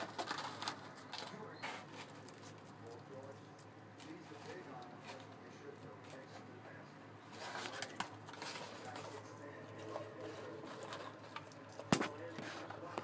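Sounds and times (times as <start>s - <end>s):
low steady hum: 0.0s - 13.0s
faint background voices: 0.4s - 13.0s.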